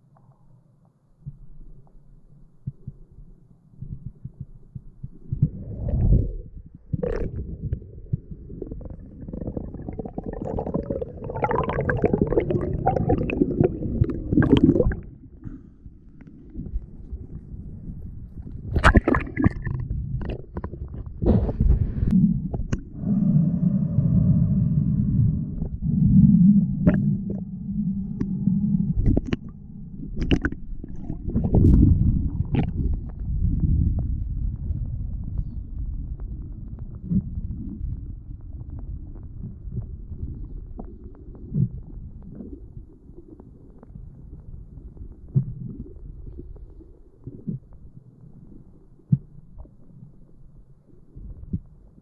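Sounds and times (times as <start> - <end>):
muffled underwater rumbling: 0.0 - 52.0.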